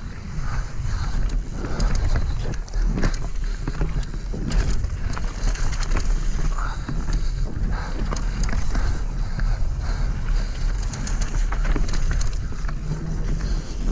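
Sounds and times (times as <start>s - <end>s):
bike clicks and rattles: 0.0s - 13.9s
wind rumbling on microphone: 0.0s - 13.9s
tyres rolling over dirt: 1.3s - 13.9s.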